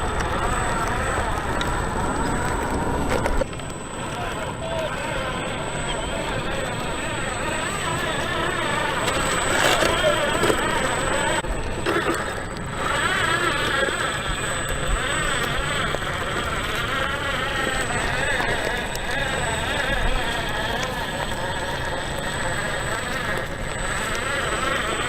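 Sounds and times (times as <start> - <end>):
toy truck electric motor whining: 0.0 - 25.0.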